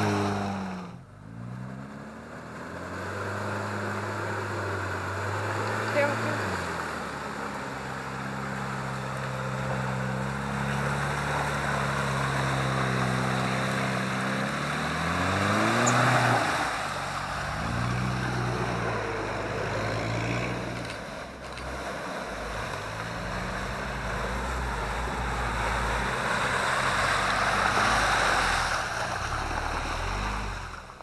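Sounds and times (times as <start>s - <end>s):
engine revving: 0.0s - 31.0s
water and mud splashing: 3.1s - 31.0s.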